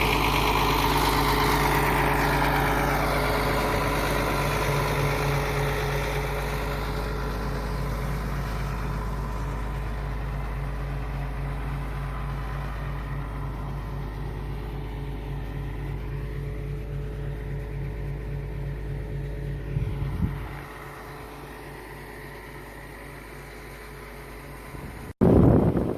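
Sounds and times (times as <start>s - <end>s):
farm machine engine running: 0.0s - 25.9s.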